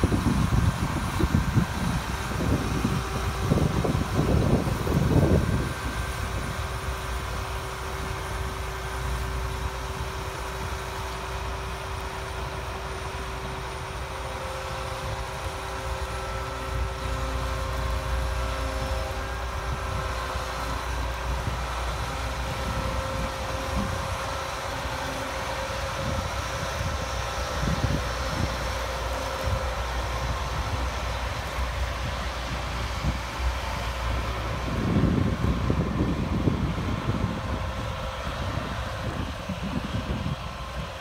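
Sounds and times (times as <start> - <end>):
combine diesel engine rumbling: 0.0 - 41.0.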